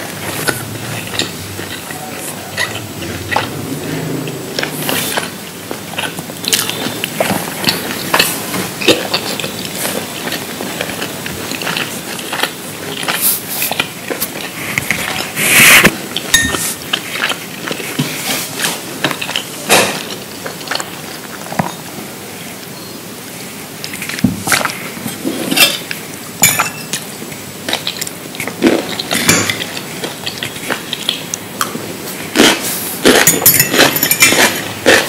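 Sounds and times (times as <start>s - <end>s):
chewing crunchy food: 0.0s - 22.0s, 23.8s - 26.3s, 26.9s - 35.0s.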